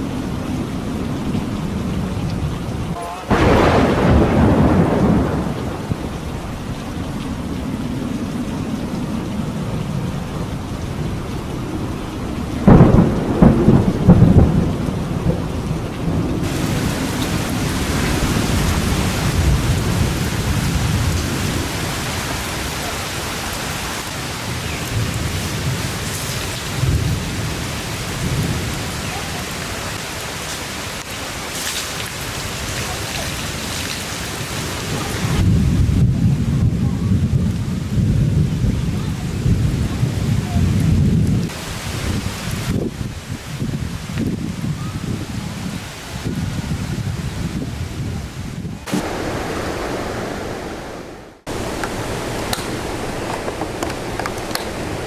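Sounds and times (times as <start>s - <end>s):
rumbling thunder: 0.0s - 30.0s, 34.6s - 55.0s
heavy rain: 0.0s - 55.0s
loud thunderclap: 1.9s - 29.6s, 34.8s - 55.0s.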